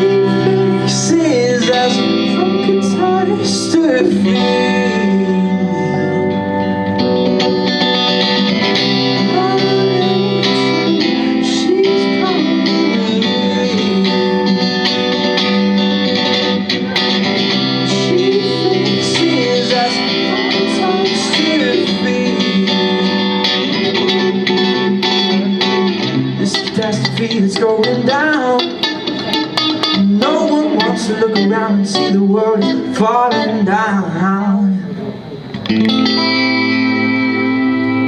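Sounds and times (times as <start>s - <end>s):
band backing: 0.0s - 38.0s
lead guitar with bending notes: 0.0s - 38.0s.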